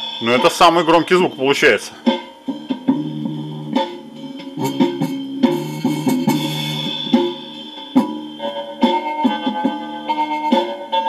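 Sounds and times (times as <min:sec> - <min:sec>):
tinny music with drums and guitar: 0:00.0 - 0:11.0.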